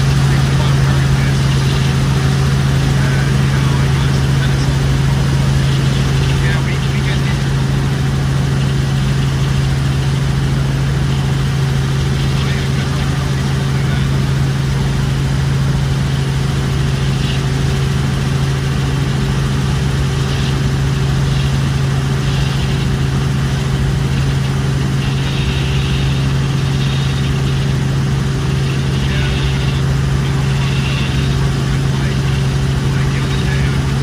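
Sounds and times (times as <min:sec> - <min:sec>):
helicopter engine and rotors droning: 0:00.0 - 0:34.0.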